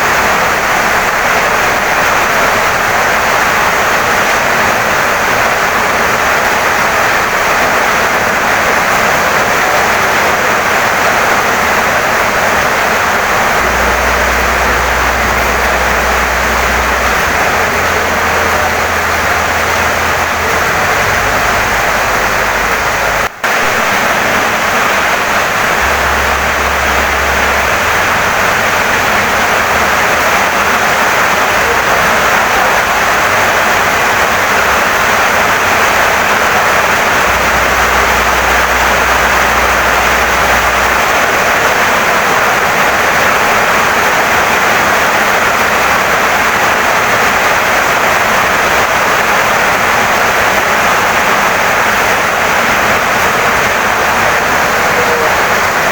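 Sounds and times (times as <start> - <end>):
heavy rain on a house: 0.0 - 55.9.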